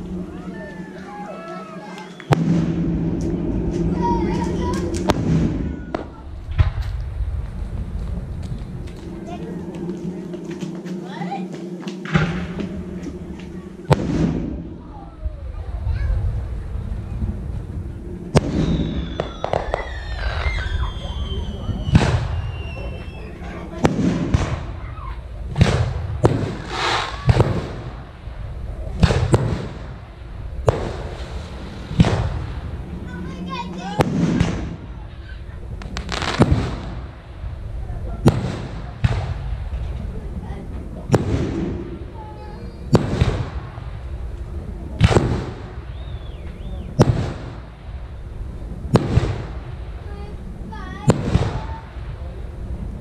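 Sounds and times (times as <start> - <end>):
firework bangs with echo: 0.0 - 7.3, 12.0 - 15.0, 18.3 - 44.0, 44.8 - 48.0, 48.8 - 52.3.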